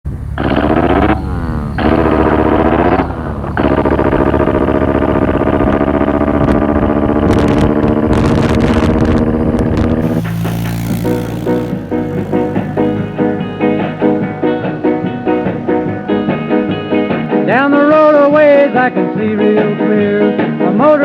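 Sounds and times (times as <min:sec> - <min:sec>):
motorcycle engine running hard: 0:00.1 - 0:18.9.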